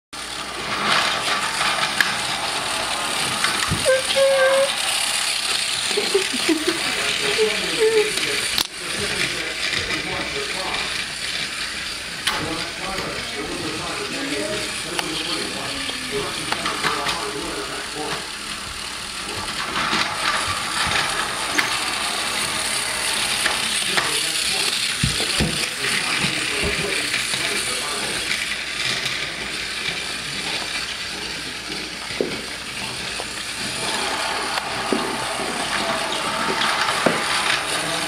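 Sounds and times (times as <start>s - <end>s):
toy train motor whirring: 0.2s - 38.0s.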